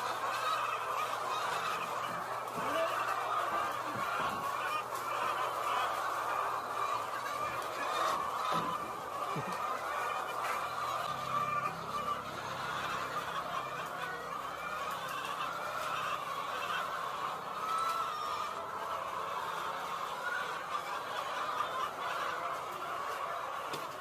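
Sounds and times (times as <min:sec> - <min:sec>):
flock of chickens clucking: 0:00.0 - 0:24.0.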